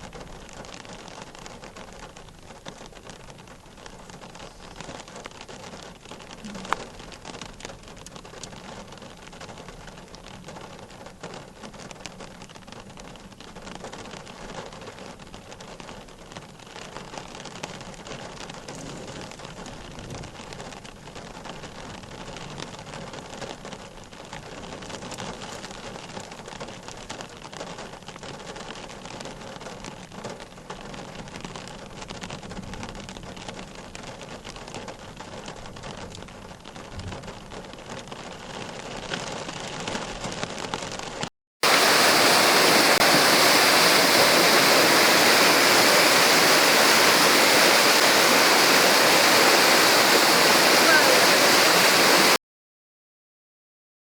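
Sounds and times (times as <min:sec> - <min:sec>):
steady rain falling: 0:00.0 - 0:52.4.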